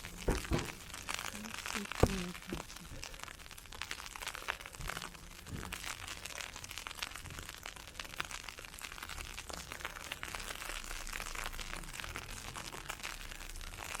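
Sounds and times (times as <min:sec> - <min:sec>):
ice pellets ticking: 0:00.0 - 0:14.0.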